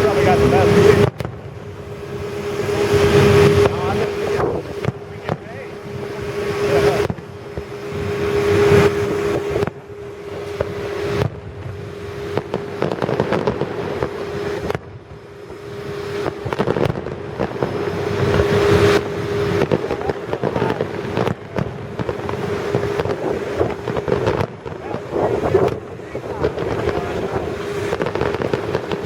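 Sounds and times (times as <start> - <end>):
fireworks popping and crackling: 0.0 - 29.0
steady hum: 0.0 - 29.0.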